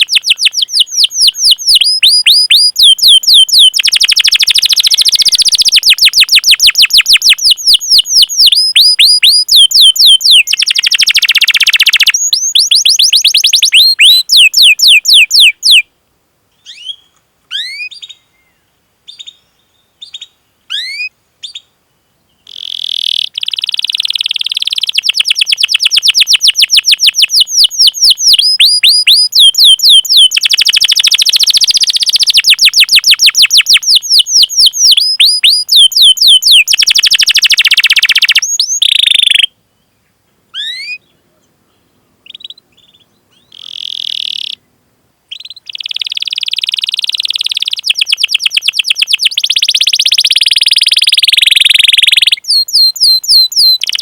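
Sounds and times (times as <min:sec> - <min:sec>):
canary singing trills: 0:00.0 - 0:15.9, 0:16.6 - 0:21.7, 0:22.3 - 0:39.5, 0:40.5 - 0:44.7, 0:45.3 - 0:54.0.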